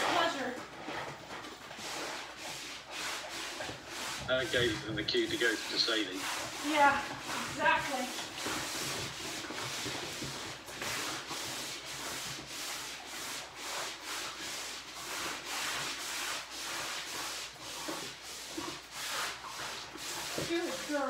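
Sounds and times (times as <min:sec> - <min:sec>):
dog sniffing on wood floor: 0:00.0 - 0:21.0.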